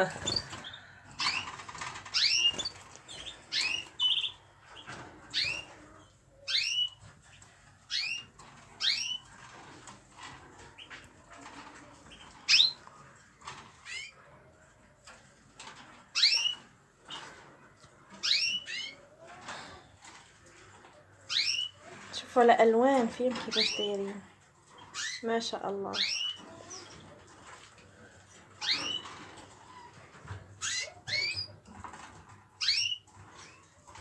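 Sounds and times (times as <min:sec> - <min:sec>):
cage birds chirping: 0:00.0 - 0:34.0.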